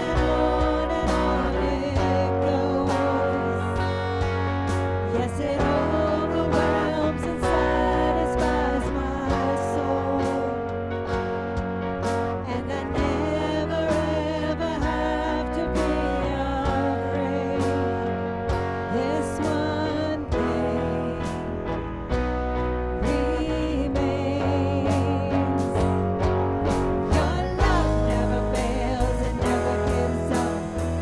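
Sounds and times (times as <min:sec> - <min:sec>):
worship song with band: 0:00.0 - 0:31.0.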